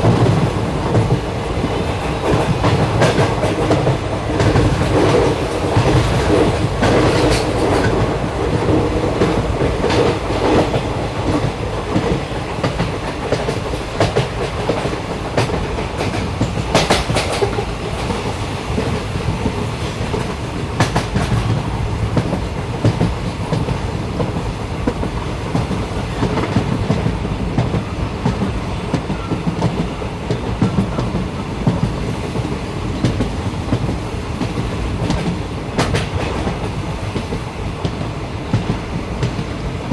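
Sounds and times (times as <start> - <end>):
clickety-clack over rail joints: 0.0 - 39.9
train wheels rumbling on track: 0.0 - 39.9.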